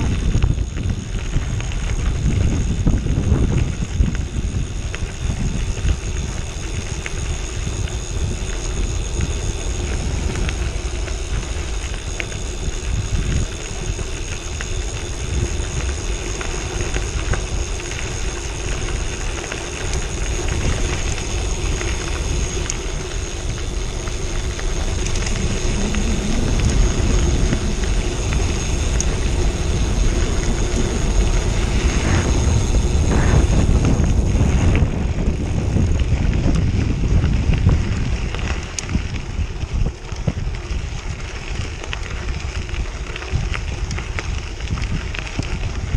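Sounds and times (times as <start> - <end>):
tyres rumbling on gravel: 0.0 - 45.9
wind rushing over microphone: 0.0 - 45.9.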